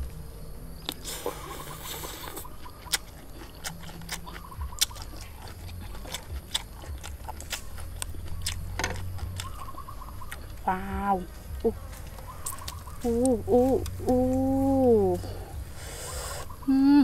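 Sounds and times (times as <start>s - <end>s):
wet chewing sounds: 0.8s - 16.6s.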